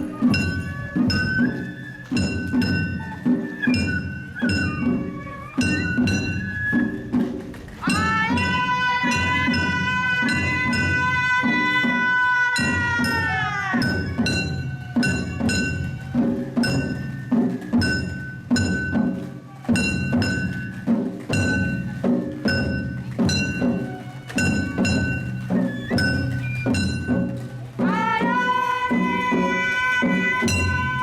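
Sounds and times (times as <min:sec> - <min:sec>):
drums struck in steady beat: 0:00.0 - 0:31.0.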